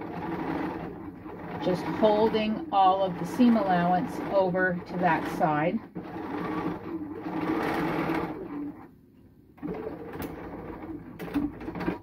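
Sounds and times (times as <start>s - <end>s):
sewing machine running: 0.0s - 8.9s, 9.6s - 12.0s.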